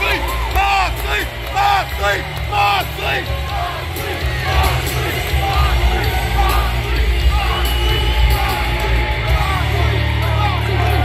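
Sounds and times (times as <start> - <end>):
crowd yelling: 0.0 - 11.0
loud music with heavy bass: 0.0 - 11.0.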